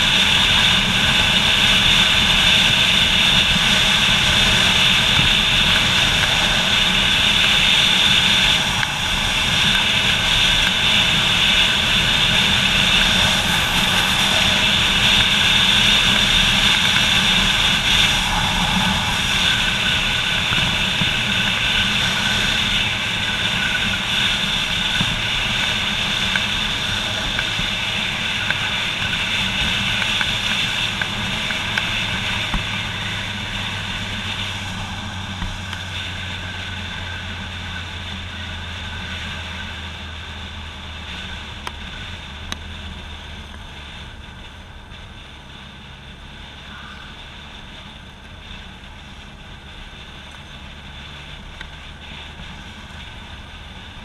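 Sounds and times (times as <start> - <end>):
motorcycle engine drone: 0.0 - 54.0
wind rush: 0.0 - 54.0.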